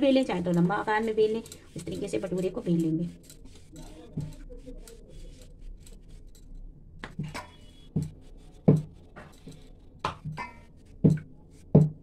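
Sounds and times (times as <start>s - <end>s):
rolling pin rolling dough: 0.0s - 12.0s.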